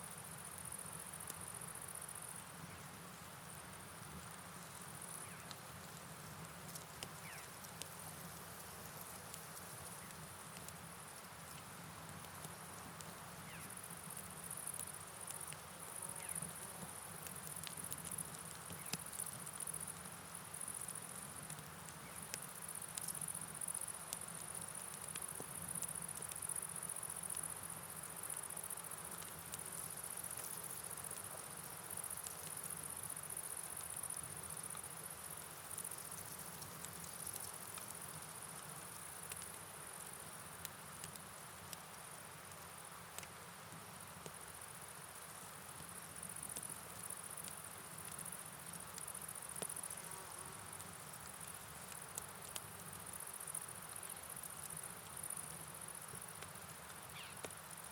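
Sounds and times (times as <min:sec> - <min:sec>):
faint ticks: 0:00.0 - 0:02.8, 0:03.8 - 0:43.4, 0:44.1 - 0:57.9
insects chirping: 0:04.6 - 0:05.5, 0:06.7 - 0:11.7, 0:12.6 - 0:40.6, 0:44.5 - 0:57.9.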